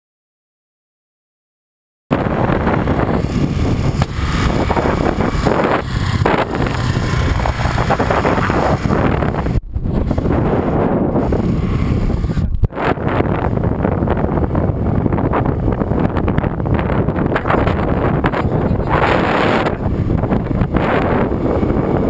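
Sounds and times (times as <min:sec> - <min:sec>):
wind buffeting microphone: 0:02.1 - 0:22.0.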